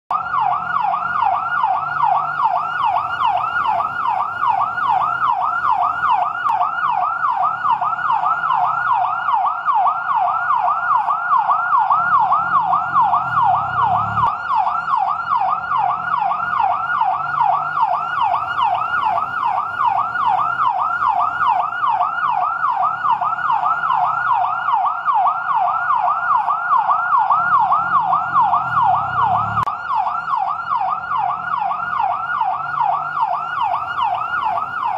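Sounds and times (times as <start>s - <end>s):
fire truck siren yelping: 0.1s - 34.9s.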